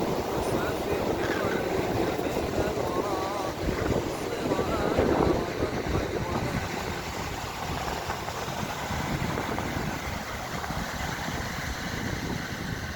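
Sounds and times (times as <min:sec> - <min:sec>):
sea surf: 0:00.0 - 0:12.9
wind buffeting microphone: 0:00.0 - 0:12.9.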